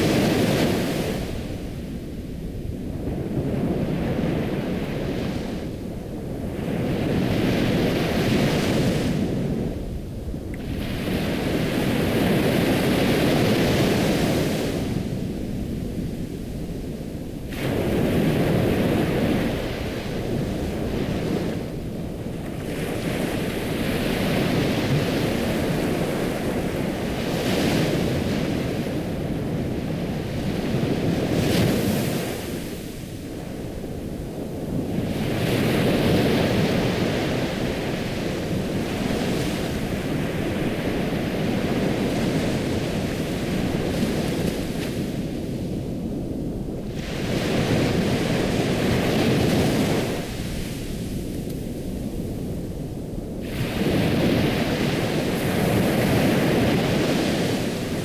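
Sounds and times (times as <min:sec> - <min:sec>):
ocean waves breaking: 0:10.5 - 0:58.0.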